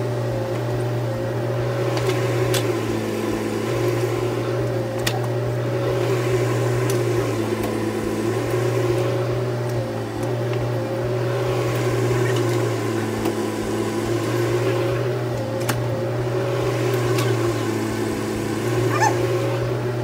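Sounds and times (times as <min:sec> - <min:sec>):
mini excavator diesel engine: 0:00.0 - 0:20.0.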